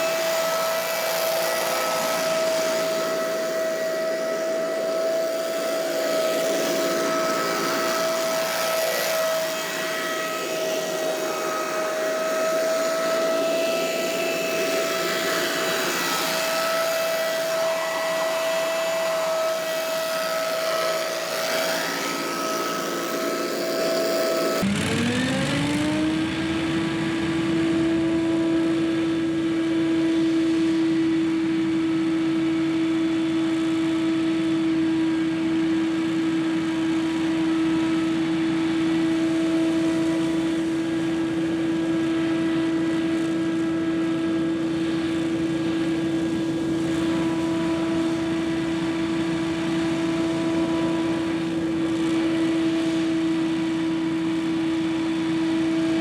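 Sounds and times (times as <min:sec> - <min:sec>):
leaf blower running: 0:00.0 - 0:56.0.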